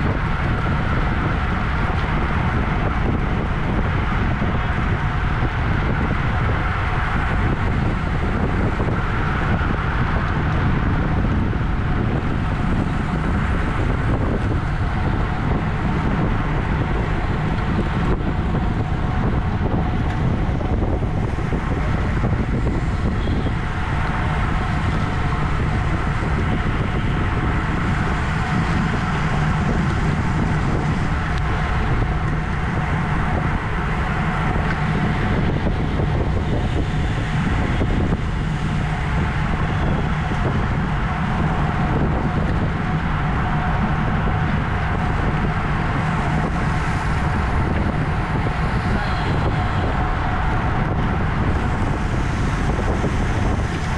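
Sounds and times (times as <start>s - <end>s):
bicycle tyres rumbling on road: 0.0s - 53.9s
wind rushing over microphone: 0.0s - 53.9s.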